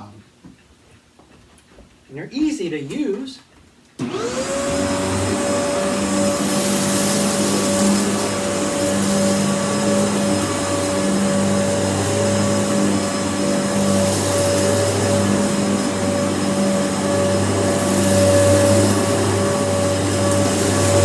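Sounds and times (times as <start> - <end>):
upright vacuum cleaner running: 4.0 - 21.0.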